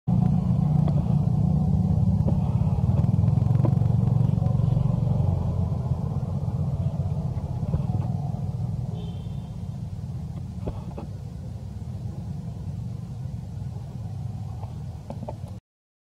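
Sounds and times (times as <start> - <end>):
engine humming steadily: 0.1 - 15.6.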